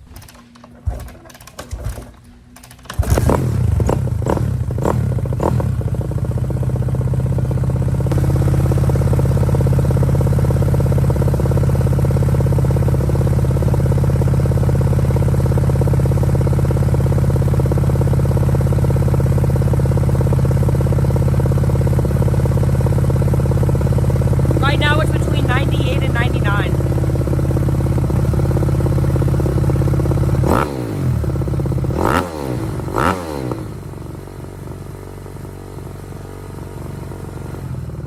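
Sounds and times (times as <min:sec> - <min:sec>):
dirt bike engine starting and idling: 0:00.0 - 0:38.0.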